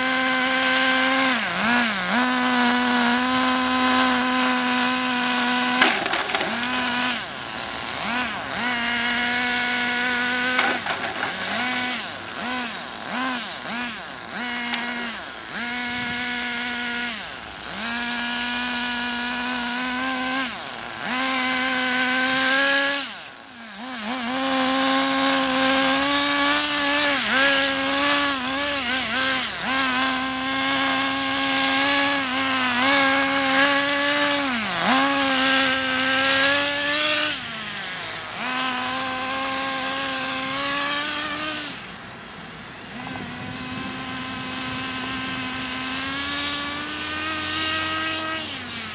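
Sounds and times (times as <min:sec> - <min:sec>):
model car engine revving: 0:00.0 - 0:48.9.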